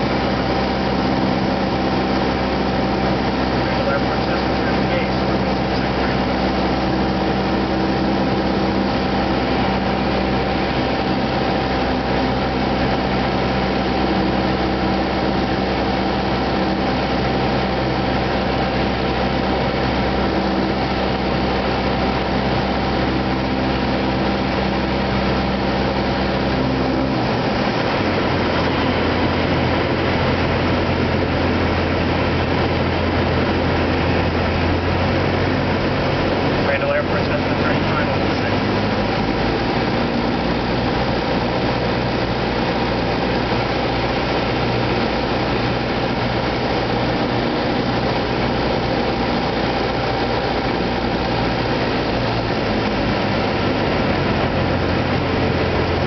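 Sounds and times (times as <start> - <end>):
piston engine and propeller running: 0.0 - 56.0.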